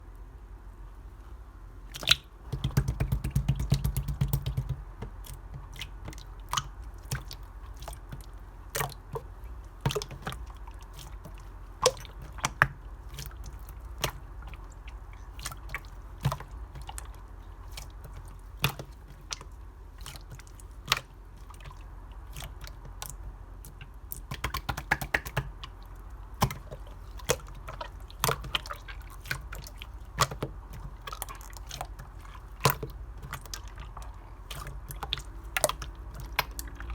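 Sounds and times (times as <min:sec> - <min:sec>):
slime popping and squelching: 0:01.9 - 0:21.7, 0:23.7 - 0:36.9.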